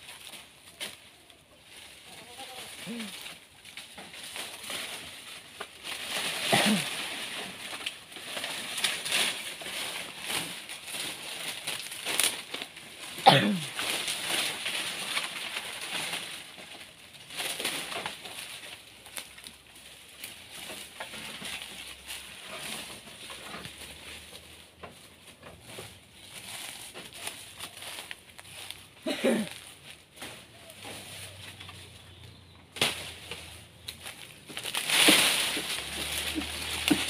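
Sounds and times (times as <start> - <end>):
dry leaves rustling and crackling: 0.0 - 37.0.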